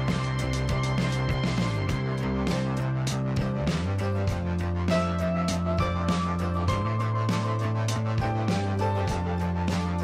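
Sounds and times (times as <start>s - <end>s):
music with steady beat: 0.0s - 10.0s.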